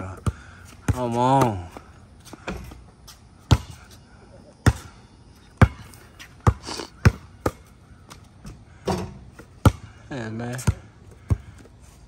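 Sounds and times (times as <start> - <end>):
basketball bouncing on concrete: 0.0 - 2.8, 3.4 - 3.9, 4.6 - 5.0, 5.6 - 11.7.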